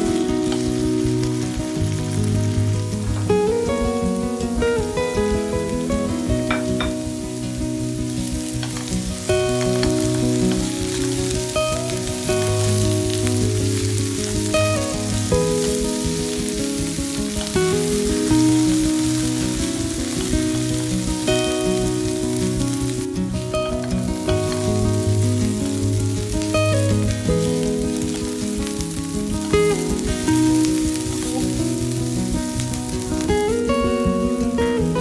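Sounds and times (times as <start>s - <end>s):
background music of held notes: 0.0s - 35.0s
potatoes sizzling in a pan: 0.0s - 35.0s.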